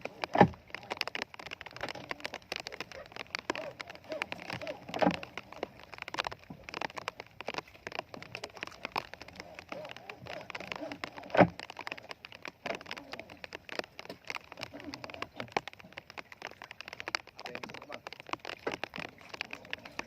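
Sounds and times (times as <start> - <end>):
rain drops tapping surfaces: 0.0 - 20.0.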